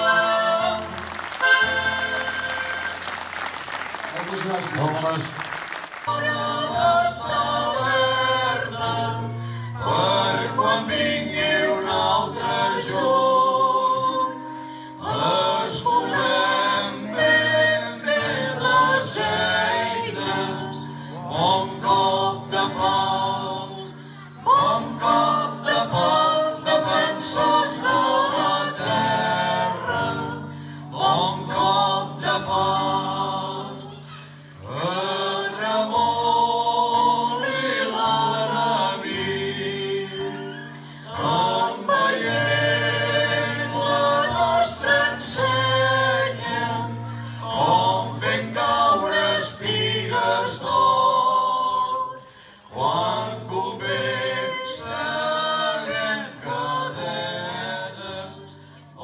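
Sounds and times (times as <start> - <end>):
small group singing in harmony: 0.0 - 3.0, 6.0 - 59.0
acoustic guitar: 0.0 - 59.0.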